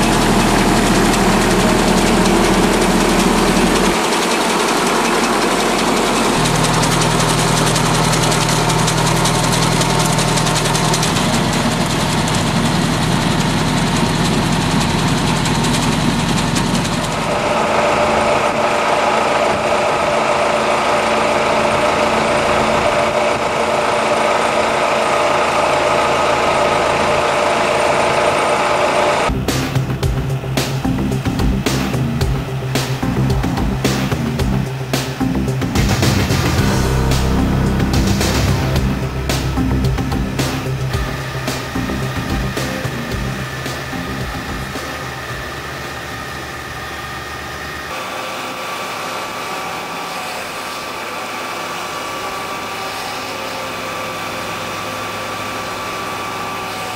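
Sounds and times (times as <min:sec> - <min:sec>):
tractor engine running: 0:00.0 - 0:48.0
hedge cutter droning: 0:00.0 - 0:56.9.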